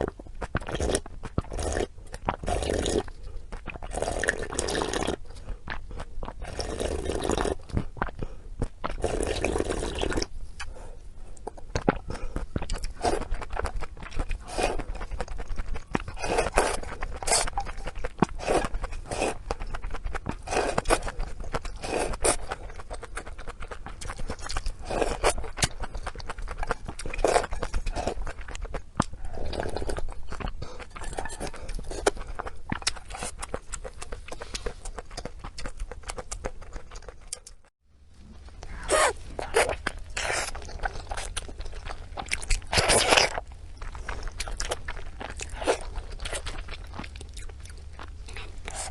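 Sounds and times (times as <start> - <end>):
close chewing with mouth clicks: 0.0 - 37.7, 38.4 - 48.9.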